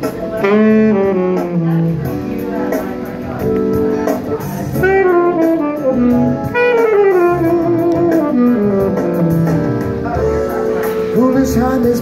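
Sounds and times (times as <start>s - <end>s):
guitar accompaniment: 0.0s - 12.0s
saxophone melody: 0.2s - 10.8s.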